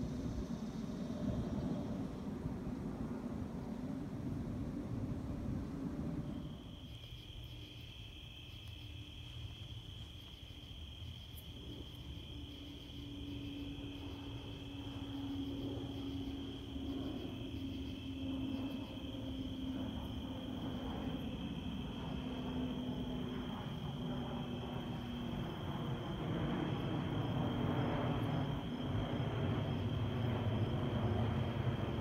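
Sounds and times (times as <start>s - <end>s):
crickets chirping: 0.0s - 32.0s
low steady hum: 0.0s - 32.0s.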